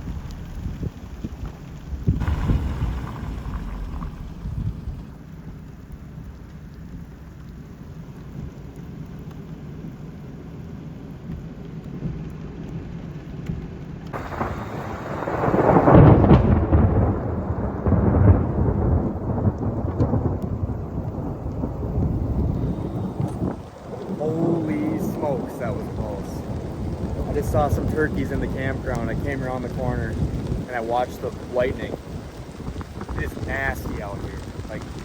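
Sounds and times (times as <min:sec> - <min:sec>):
thunder rumbling: 0:00.0 - 0:08.8, 0:14.2 - 0:35.0
heavy rain: 0:00.0 - 0:35.0.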